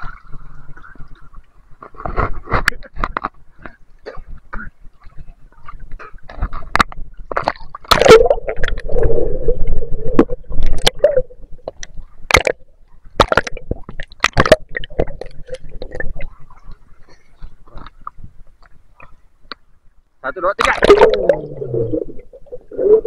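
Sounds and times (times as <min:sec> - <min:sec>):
water slapping and splashing: 0:00.0 - 0:19.2, 0:20.5 - 0:23.0
water gurgling: 0:00.0 - 0:19.6, 0:20.4 - 0:23.0.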